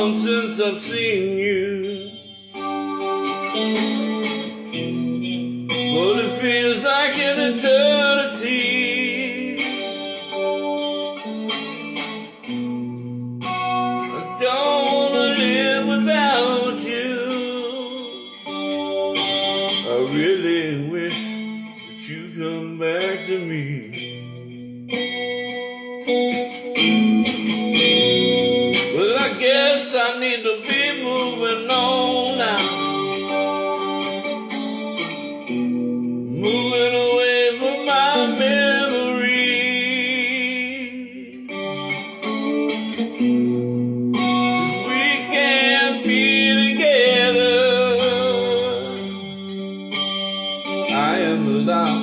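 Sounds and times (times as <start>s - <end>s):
electric guitar instrumental: 0.0s - 52.0s.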